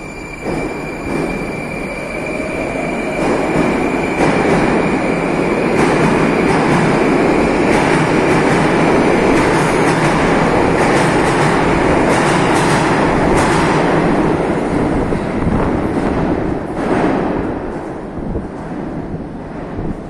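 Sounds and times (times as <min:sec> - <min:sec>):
metro train rumbling: 0:00.0 - 0:20.0.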